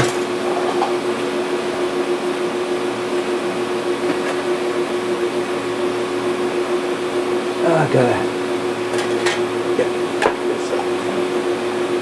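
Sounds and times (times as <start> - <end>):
welding machine humming: 0.0 - 12.0.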